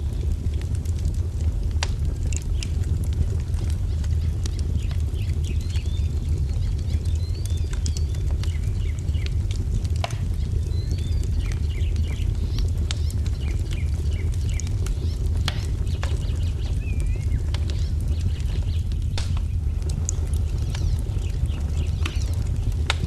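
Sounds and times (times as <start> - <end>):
songbirds chirping: 0.0 - 23.0
wood fire crackling: 0.0 - 23.0.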